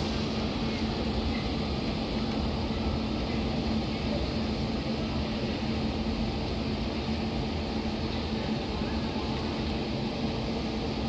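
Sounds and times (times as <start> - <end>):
constant low hum: 0.0 - 11.0
train rumbling: 0.0 - 11.0.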